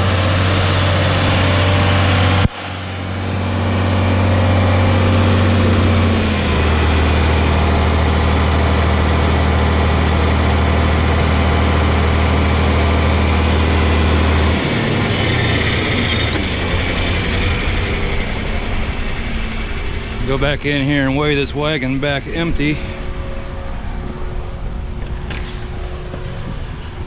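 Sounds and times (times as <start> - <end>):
heavy engine humming: 0.0 - 27.0.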